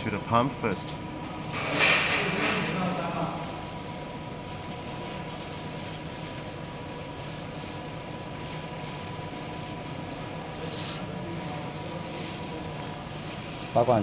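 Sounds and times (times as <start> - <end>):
faint constant whine: 0.0 - 14.0
machine hum and hiss: 0.0 - 14.0
plastic gloves rustling: 0.0 - 14.0.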